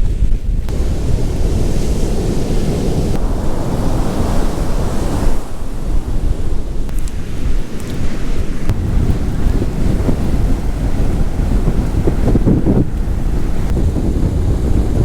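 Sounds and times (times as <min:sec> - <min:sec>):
wind gusts buffeting microphone: 0:00.0 - 0:15.0
surf breaking on beach: 0:00.7 - 0:15.0.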